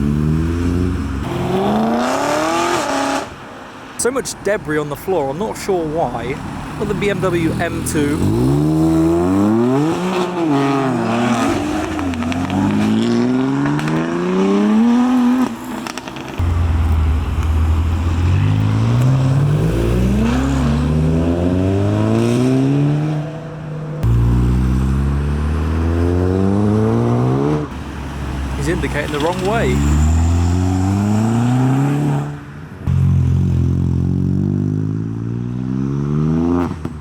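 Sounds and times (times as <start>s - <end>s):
car engines accelerating past: 6.4s - 23.4s, 24.0s - 37.0s.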